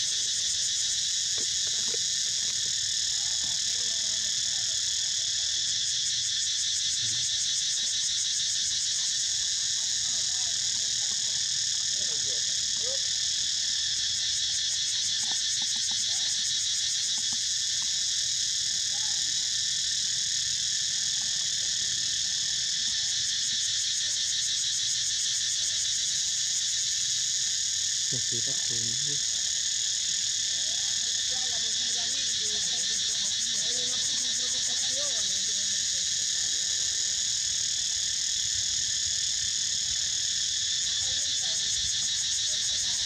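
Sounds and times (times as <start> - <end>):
insects buzzing: 0.0 - 43.0.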